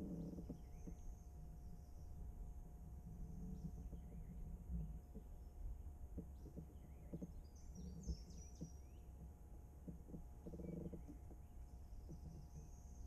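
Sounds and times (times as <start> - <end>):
faint bird chirps: 0.0 - 13.0
steady low rumble: 0.0 - 13.0.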